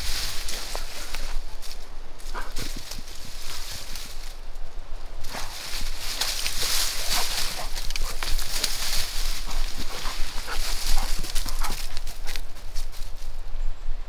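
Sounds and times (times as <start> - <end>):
twigs crackling and snapping: 0.0 - 13.2
rustling through branches and leaves: 0.0 - 13.9.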